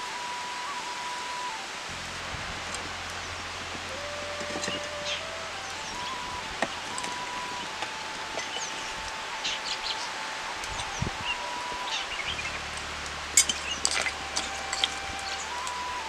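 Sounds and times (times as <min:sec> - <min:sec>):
faint tone changing pitch: 0:00.0 - 0:16.0.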